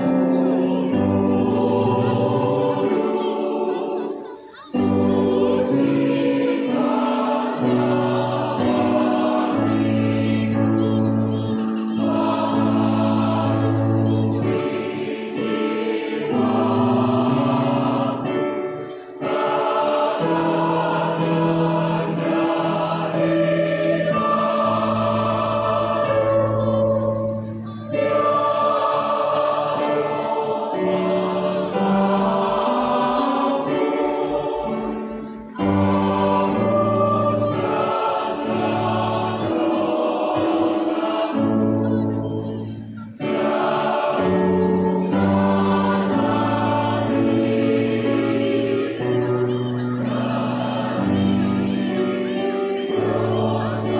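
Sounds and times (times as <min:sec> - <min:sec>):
choir singing in harmony: 0:00.0 - 0:53.9.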